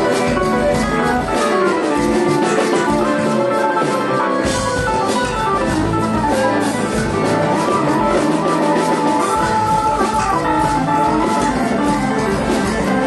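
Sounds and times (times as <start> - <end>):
drum kit: 0.0 - 13.0
electric guitars: 0.0 - 13.0
keyboard: 0.0 - 13.0.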